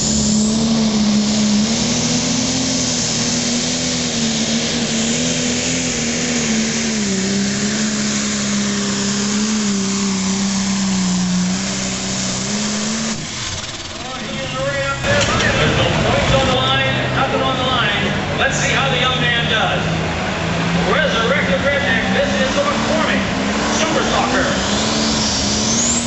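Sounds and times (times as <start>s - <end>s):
tractor diesel engine running flat out: 0.0s - 26.0s.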